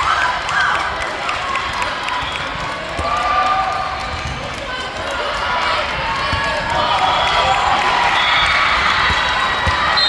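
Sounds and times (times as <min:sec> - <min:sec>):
crowd calling and cheering: 0:00.0 - 0:10.0.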